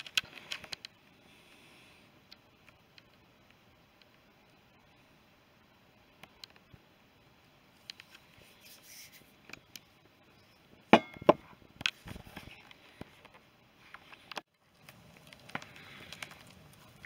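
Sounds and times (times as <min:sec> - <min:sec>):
light crackling: 0:00.0 - 0:10.8, 0:11.7 - 0:17.0.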